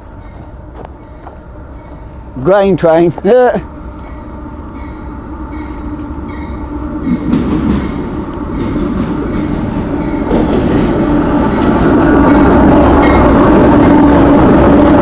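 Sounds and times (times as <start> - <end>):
locomotive engine rumble: 0.0 - 15.0
rail noise: 0.0 - 15.0.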